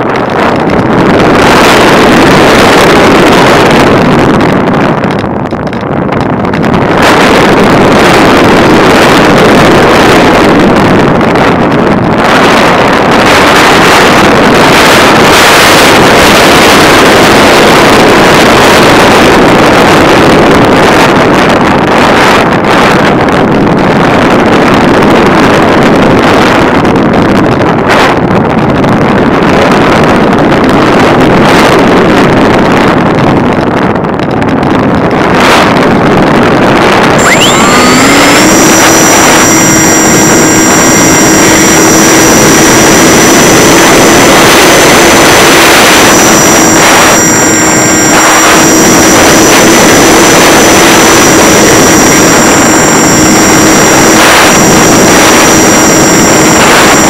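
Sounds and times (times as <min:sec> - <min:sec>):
electric motor and propeller whine: 0:00.0 - 0:57.0
wind rushing over microphone: 0:00.0 - 0:57.0.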